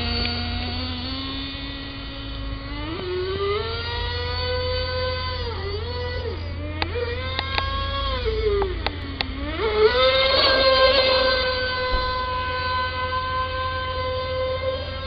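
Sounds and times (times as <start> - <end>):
small two-stroke boat engine revving: 0.0 - 15.0.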